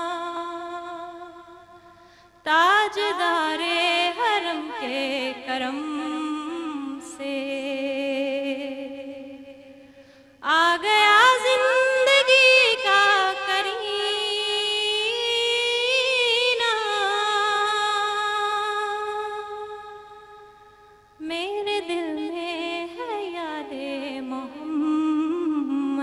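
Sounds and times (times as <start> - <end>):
woman singing: 0.0 - 1.8, 2.4 - 9.8, 10.4 - 20.5, 21.2 - 26.0.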